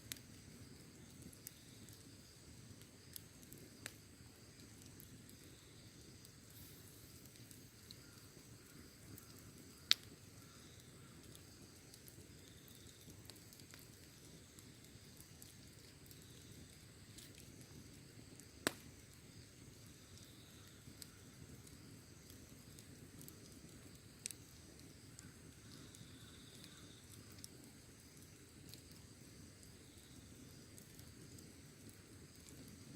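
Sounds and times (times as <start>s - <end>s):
burning wood popping: 0.0s - 32.9s
fire hissing: 0.0s - 32.9s.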